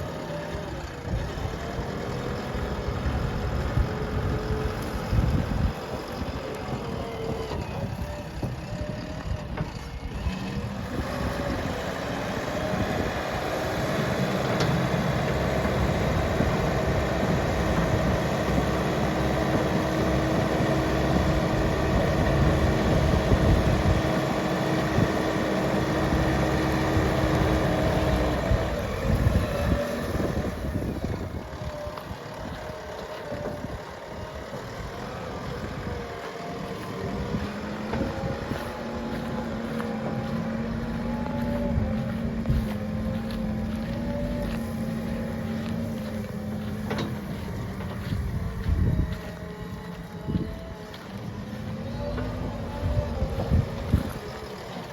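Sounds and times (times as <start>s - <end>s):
diesel engine under load: 0.0s - 54.9s.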